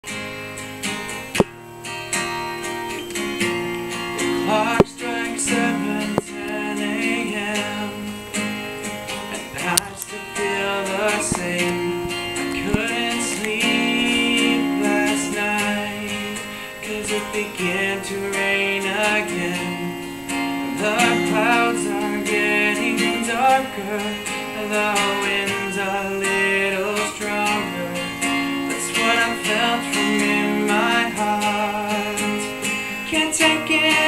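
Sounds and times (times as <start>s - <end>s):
acoustic guitar strummed: 0.0s - 34.0s.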